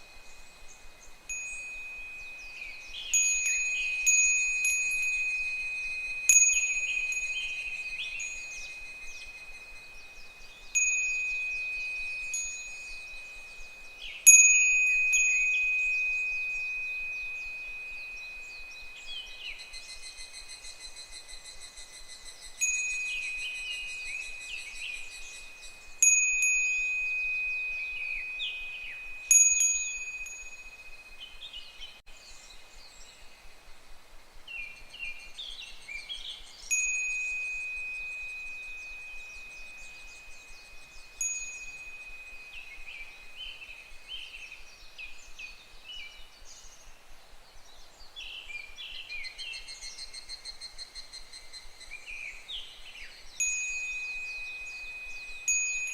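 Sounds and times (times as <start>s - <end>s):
cicadas trilling: 0.0s - 31.8s, 33.4s - 47.4s, 48.6s - 55.9s
wind bell ringing: 0.0s - 31.8s, 36.6s - 46.6s, 49.8s - 55.9s.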